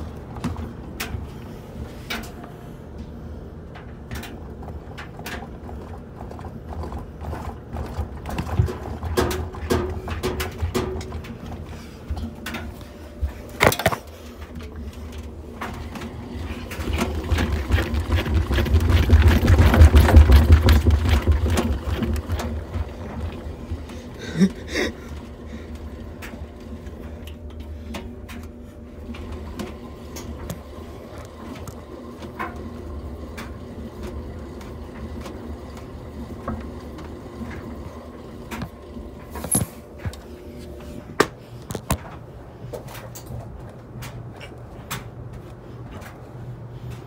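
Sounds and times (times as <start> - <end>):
washing machine drum humming: 0.0 - 47.0.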